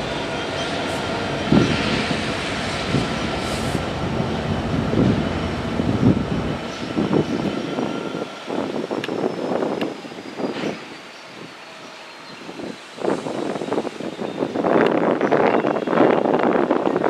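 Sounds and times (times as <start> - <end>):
train cars rumbling past: 0.0 - 17.0.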